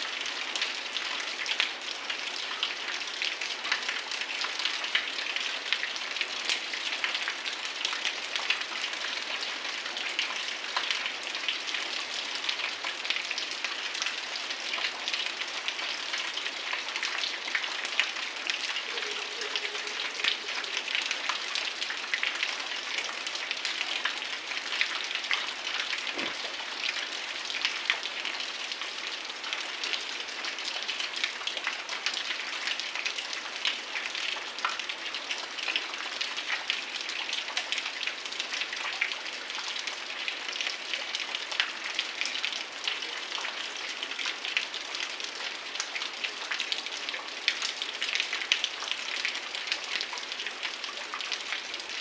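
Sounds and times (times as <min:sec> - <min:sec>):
heavy rain falling: 0:00.2 - 0:52.0.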